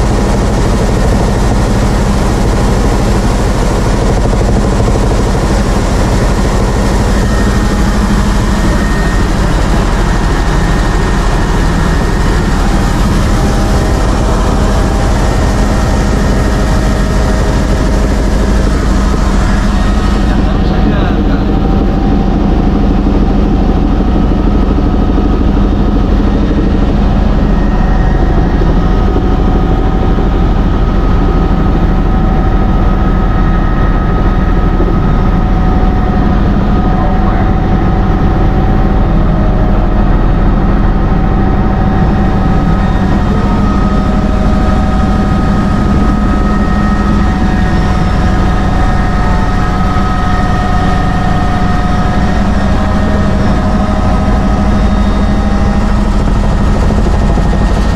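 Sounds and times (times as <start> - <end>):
helicopter rotor and engine drone: 0.0 - 57.9
high whine: 0.0 - 57.9.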